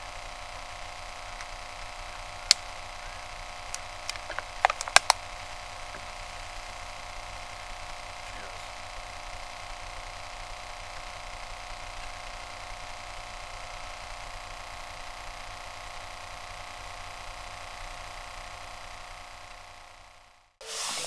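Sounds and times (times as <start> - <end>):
constant hiss: 0.0 - 21.0
engine drone: 0.0 - 21.0.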